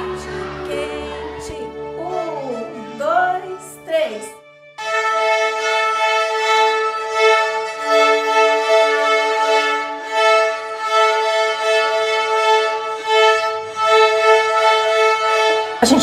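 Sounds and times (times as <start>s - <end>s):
lower violin note: 0.0s - 16.0s.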